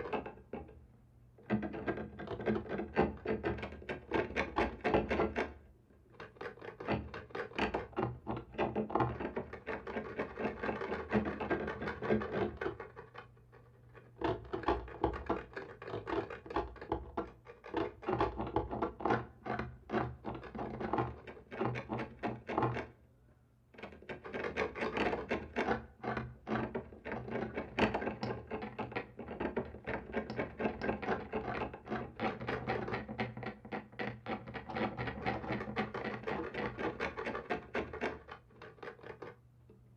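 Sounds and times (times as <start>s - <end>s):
scratching and scraping on a wall: 0.0s - 0.8s, 1.4s - 23.0s, 23.7s - 39.8s.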